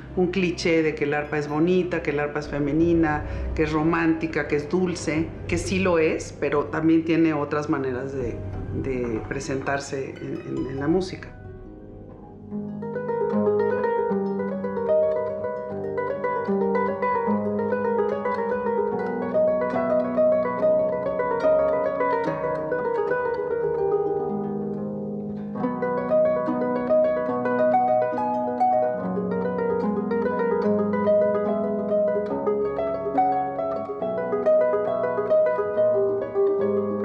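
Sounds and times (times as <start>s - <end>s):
harp plucked notes: 0.0s - 37.0s.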